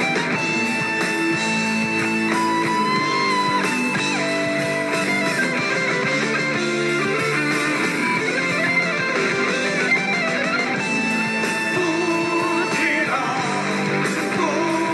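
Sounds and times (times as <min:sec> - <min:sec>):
electric guitar bending notes: 0:00.0 - 0:14.9
rock band playing: 0:00.0 - 0:14.9.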